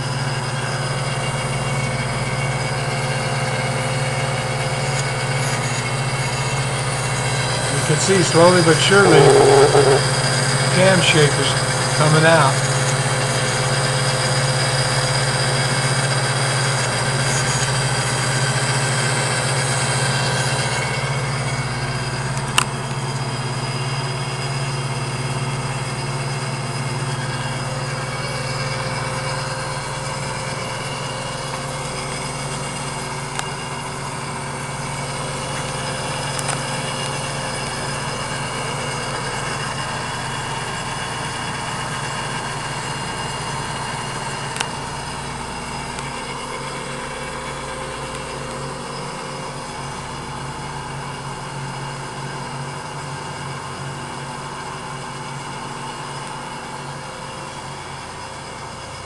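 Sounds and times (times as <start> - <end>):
lathe grinder motor hum and whine: 0.0 - 59.0.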